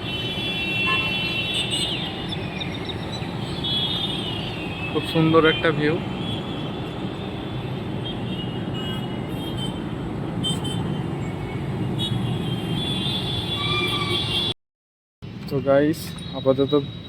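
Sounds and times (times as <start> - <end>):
urban traffic rumble: 0.0 - 14.6, 15.2 - 17.0.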